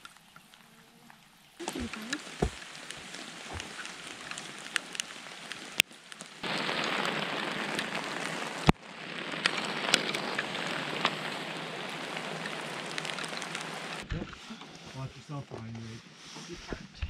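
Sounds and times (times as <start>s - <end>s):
rain falling on a lake: 0.0s - 16.5s.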